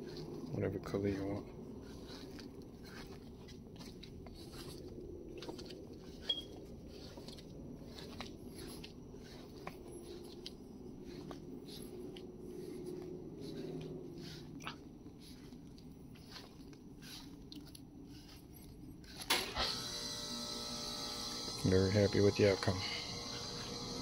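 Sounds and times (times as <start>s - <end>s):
light clicks and scrapes: 0.0s - 19.3s
faint footsteps: 0.0s - 20.1s
low steady hum: 0.0s - 24.0s.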